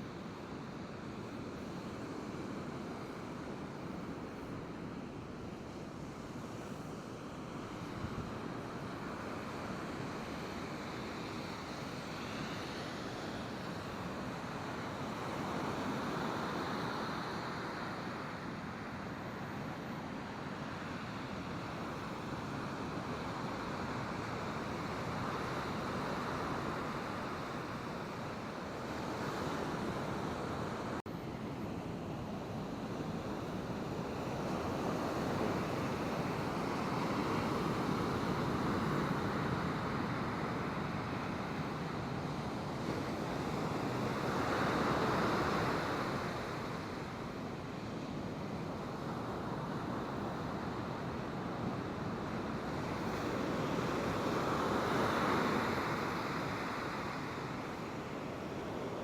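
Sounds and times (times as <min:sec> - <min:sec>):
ocean surf washing in: 0:00.0 - 0:59.0.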